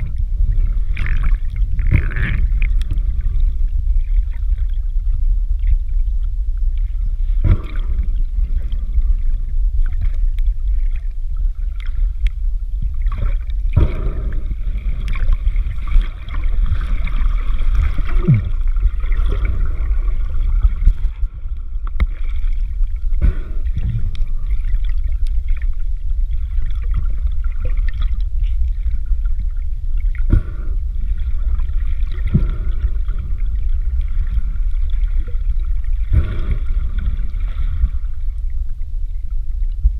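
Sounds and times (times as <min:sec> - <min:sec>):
muffled underwater rumble: 0:00.0 - 0:39.9
water gurgling: 0:00.0 - 0:39.9.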